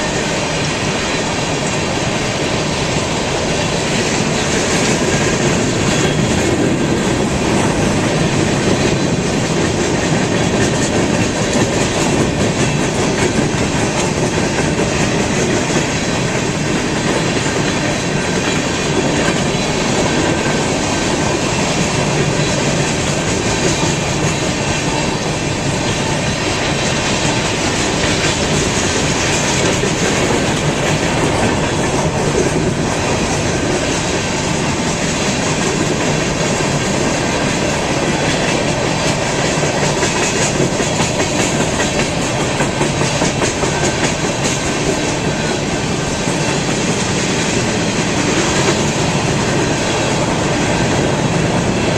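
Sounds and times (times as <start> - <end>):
train wheels rumbling on track: 0.0 - 51.9.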